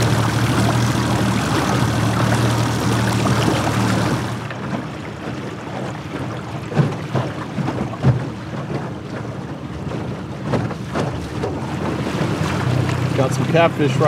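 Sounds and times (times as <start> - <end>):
boat motor hum: 0.0 - 14.0.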